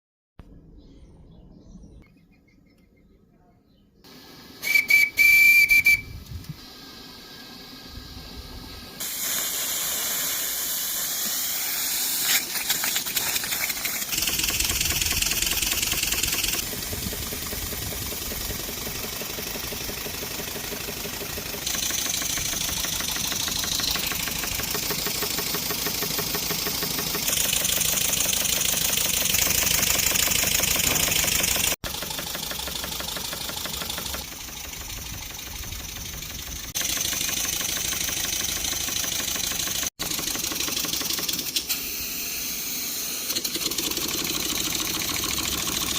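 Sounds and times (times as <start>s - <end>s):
steam hissing: 4.1s - 6.0s, 6.6s - 45.9s
steam engine strokes beating: 4.1s - 12.3s, 13.8s - 45.9s.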